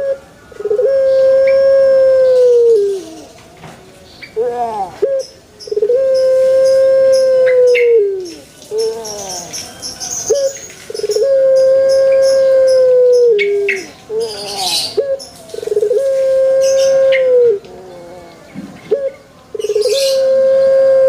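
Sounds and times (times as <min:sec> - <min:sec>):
dove cooing: 0:00.0 - 0:03.4, 0:04.3 - 0:21.0
small birds chirping: 0:02.2 - 0:20.8.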